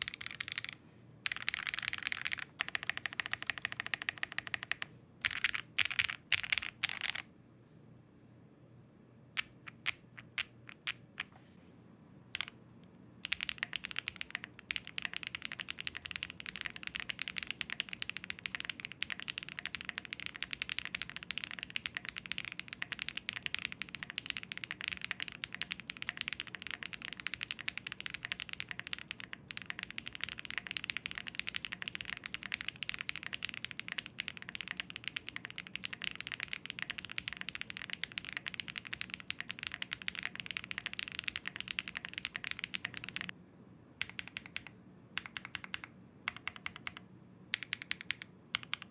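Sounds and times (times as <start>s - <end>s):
mechanical keyboard typing: 0.0s - 7.2s, 13.2s - 43.3s, 44.0s - 48.9s.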